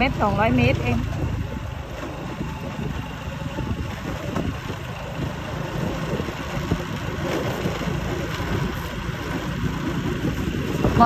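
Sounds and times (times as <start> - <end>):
motorcycle engine low rumble: 0.0 - 11.0.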